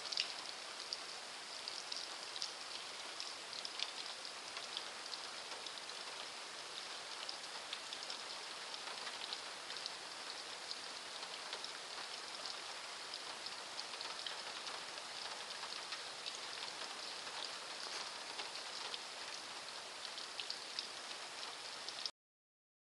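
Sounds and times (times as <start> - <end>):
heavy rain hissing: 0.0 - 22.1
sharp ticks of raindrops: 0.0 - 22.1.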